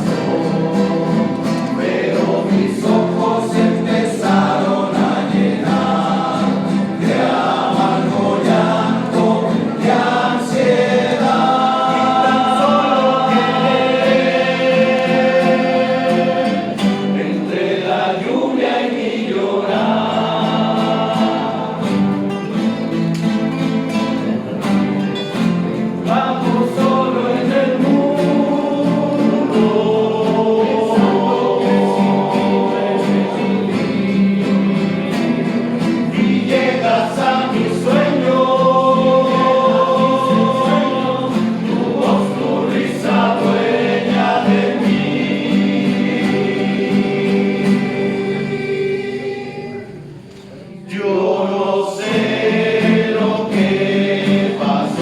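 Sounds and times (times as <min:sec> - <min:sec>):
guitars plucking: 0:00.0 - 0:50.8, 0:52.0 - 0:55.0
group singing in harmony: 0:00.0 - 0:55.0.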